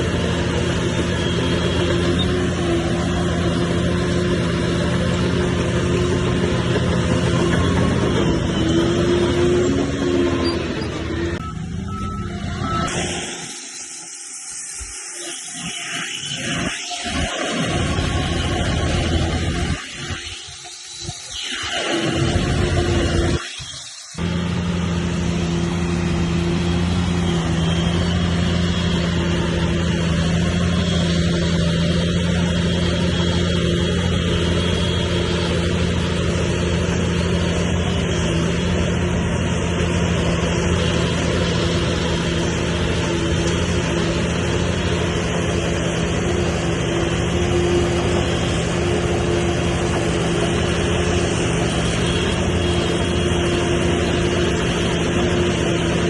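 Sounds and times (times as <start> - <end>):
diesel engine running: 0.0 - 15.5, 16.4 - 56.0.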